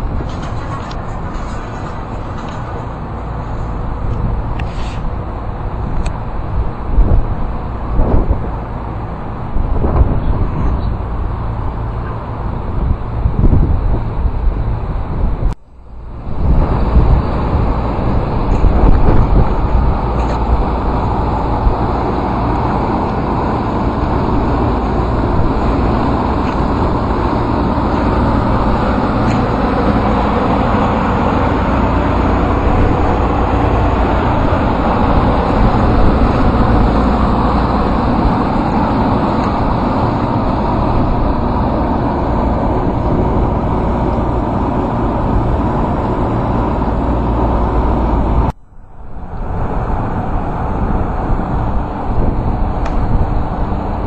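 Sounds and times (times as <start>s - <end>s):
chiller humming: 0.0s - 54.0s.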